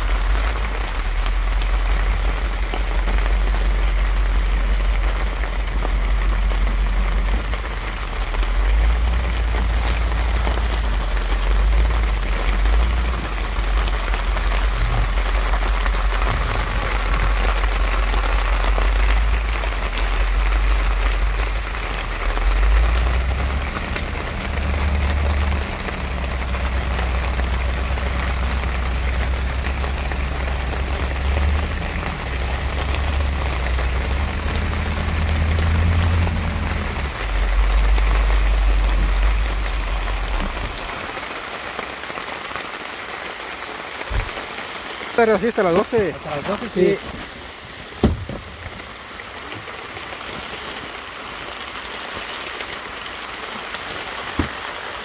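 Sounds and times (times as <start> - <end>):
rain pattering on plastic tarp: 0.0 - 55.0.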